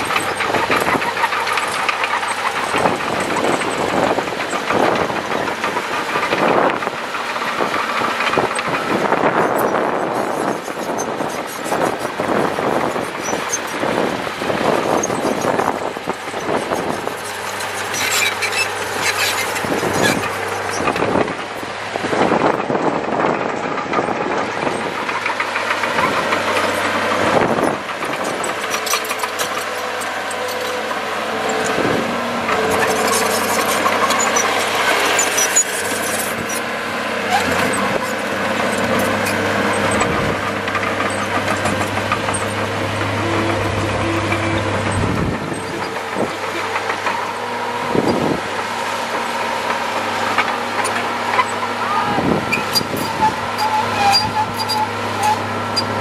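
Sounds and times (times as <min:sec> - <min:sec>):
bulldozer diesel engine running: 0:00.0 - 0:56.0
steel tracks clanking and rattling: 0:00.0 - 0:56.0.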